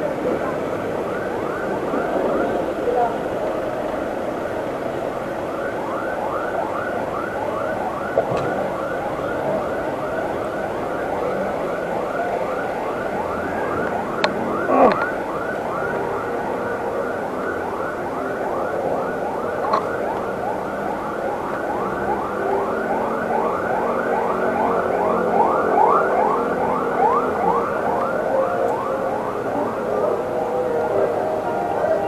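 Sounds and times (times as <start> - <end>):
electronic siren yelping: 6.2 - 32.0.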